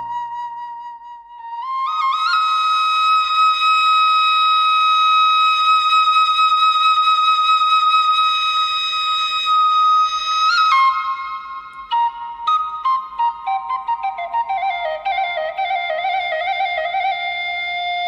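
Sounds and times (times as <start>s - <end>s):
bamboo flute: 0.0s - 18.0s.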